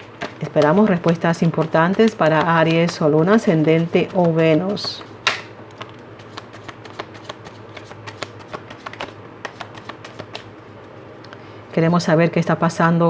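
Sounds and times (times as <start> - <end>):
cards being shuffled: 0.0 - 10.5.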